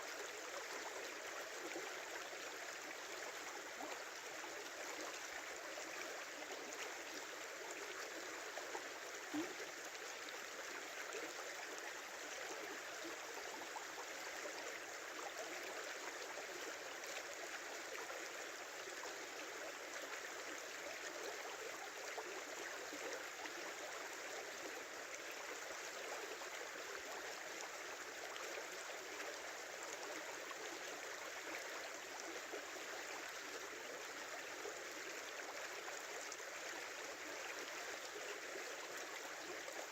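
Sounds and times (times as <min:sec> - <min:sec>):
small river flowing: 0:00.0 - 0:39.9.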